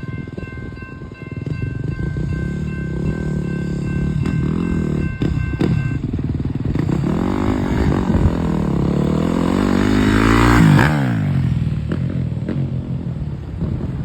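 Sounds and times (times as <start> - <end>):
steady ringing tone: 0.0 - 11.5
vehicle engine running and passing: 1.3 - 14.0.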